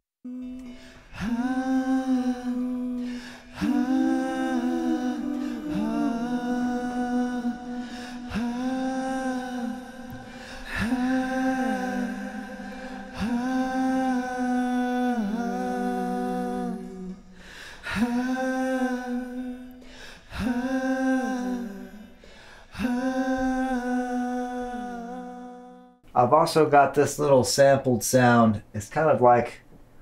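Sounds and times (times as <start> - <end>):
vocal harmonies with reverb: 0.3 - 26.8.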